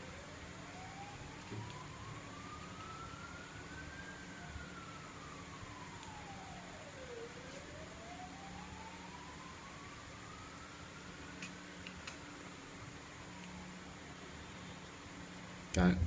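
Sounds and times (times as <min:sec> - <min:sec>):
siren wailing: 0:00.0 - 0:11.9, 0:12.9 - 0:14.0.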